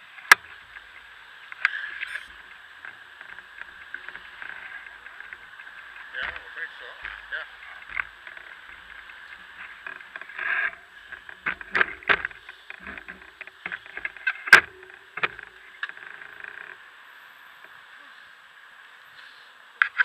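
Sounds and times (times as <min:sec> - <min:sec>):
rustling: 0:00.0 - 0:16.8
steady hiss: 0:00.0 - 0:20.0.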